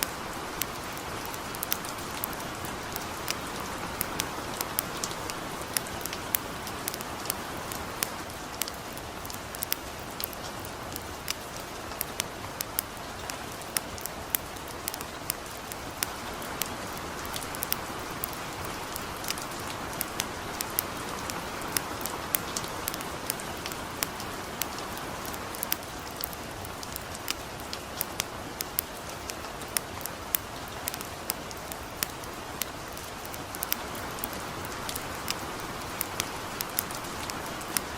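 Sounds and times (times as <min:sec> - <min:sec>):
campfire crackling: 0:00.0 - 0:37.9
light rain hissing: 0:00.0 - 0:37.9.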